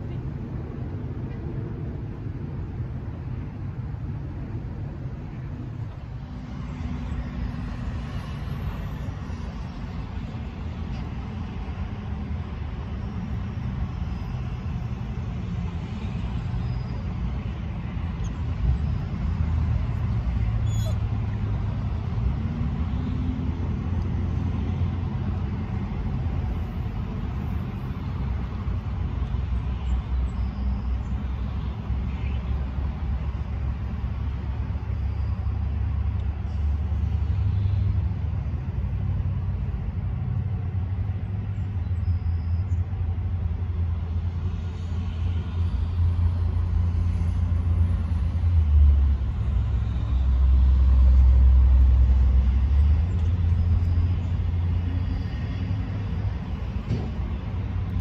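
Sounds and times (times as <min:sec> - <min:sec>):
low rumble of road traffic: 0:00.0 - 0:58.0.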